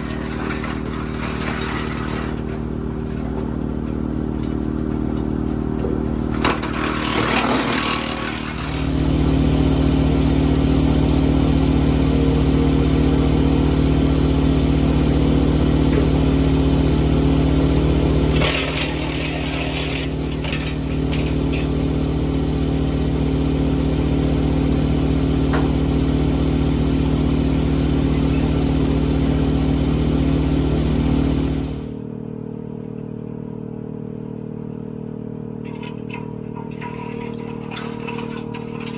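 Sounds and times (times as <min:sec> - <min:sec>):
wood chipper chewing branches: 0:00.0 - 0:31.9, 0:35.6 - 0:38.9
tractor diesel engine running: 0:00.0 - 0:32.0, 0:35.6 - 0:38.9.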